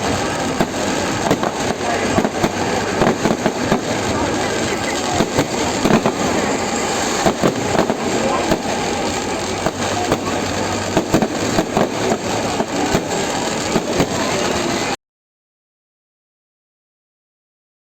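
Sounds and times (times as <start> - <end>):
continuous dense din: 0.0 - 15.0
fireworks bangs and crackles: 0.0 - 15.0.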